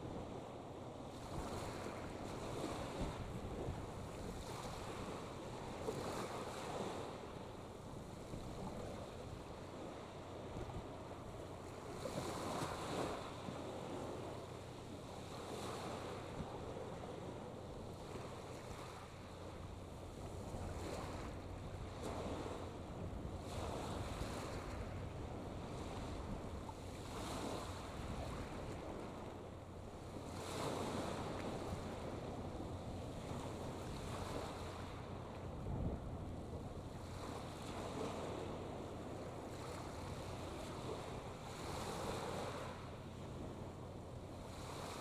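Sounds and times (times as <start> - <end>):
wind rumbling on microphone: 0.0 - 45.0
small waves washing in: 1.0 - 45.0.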